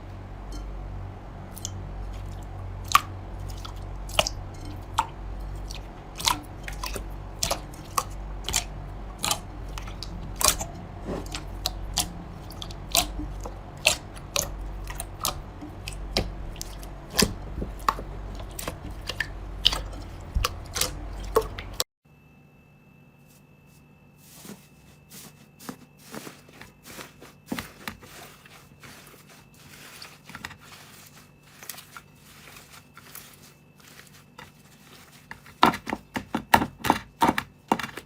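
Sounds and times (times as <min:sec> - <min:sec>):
steady low hum: 0:00.0 - 0:36.1.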